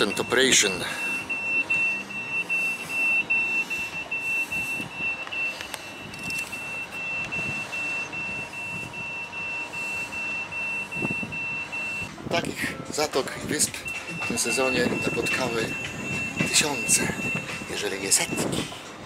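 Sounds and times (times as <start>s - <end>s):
high-pitched warning beeps: 0.0s - 18.8s.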